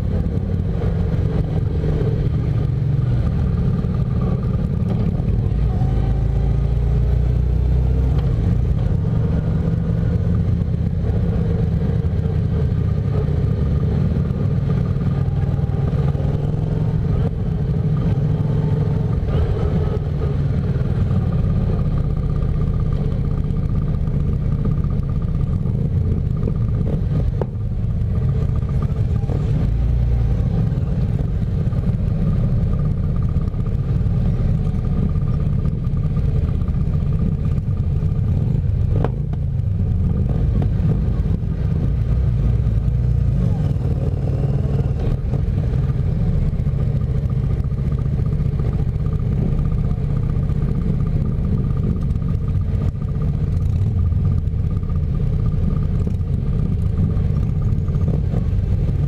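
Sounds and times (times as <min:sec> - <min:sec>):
motorcycle engine rumbling: 0:00.0 - 0:59.0
other motorcycles riding alongside: 0:00.0 - 0:59.0.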